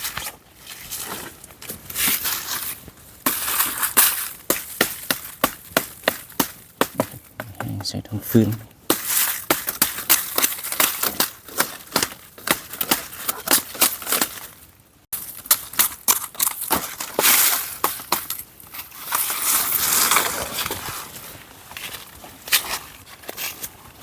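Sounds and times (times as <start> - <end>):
dry leaves and twigs crunching: 0.0 - 24.0.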